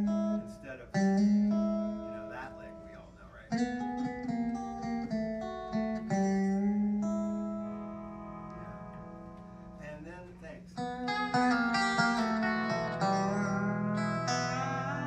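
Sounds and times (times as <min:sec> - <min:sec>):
clean electric guitar notes: 0:00.0 - 0:15.0
guitar pitch bend: 0:00.0 - 0:15.0.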